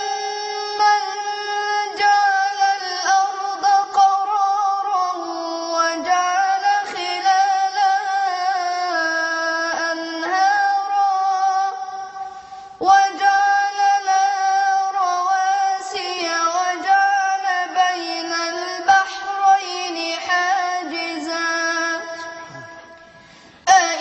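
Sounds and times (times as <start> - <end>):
boy chanting melodically: 0.0 - 24.0.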